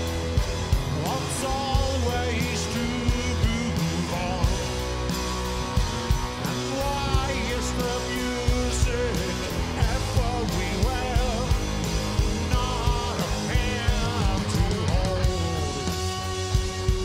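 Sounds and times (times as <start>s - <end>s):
live rock band playing: 0.0s - 17.0s
man singing: 0.9s - 4.9s, 6.4s - 16.4s.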